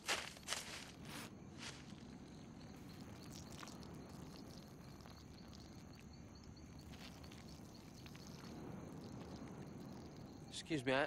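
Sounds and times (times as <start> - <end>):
insect chirps: 0.0 - 11.0.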